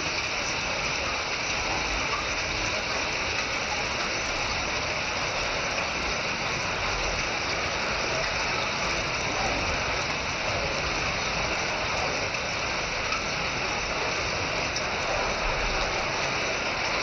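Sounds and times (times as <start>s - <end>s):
hailstones clattering: 0.0s - 17.0s.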